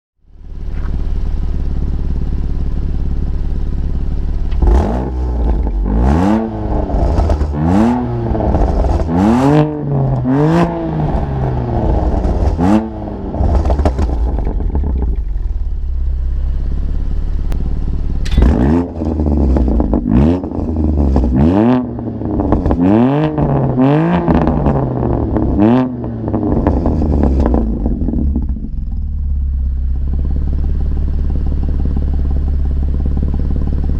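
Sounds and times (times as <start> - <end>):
car engine idling: 0.2 - 33.9
engine revving: 0.4 - 33.9.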